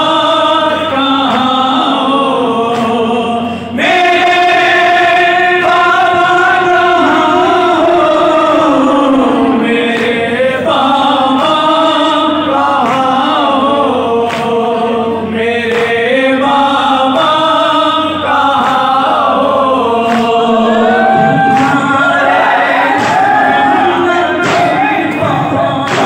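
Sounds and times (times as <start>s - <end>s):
group of men singing along: 0.0s - 26.0s
man singing lament into microphone: 0.0s - 26.0s.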